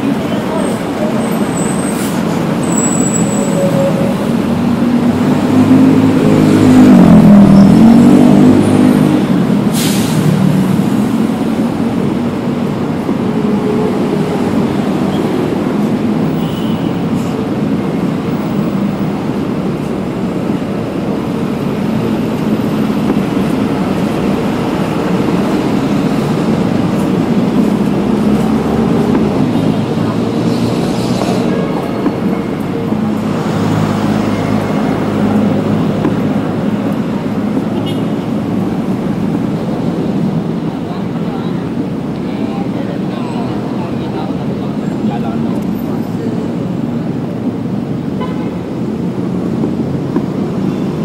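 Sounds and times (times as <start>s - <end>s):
bus and car engines running: 0.0s - 51.0s.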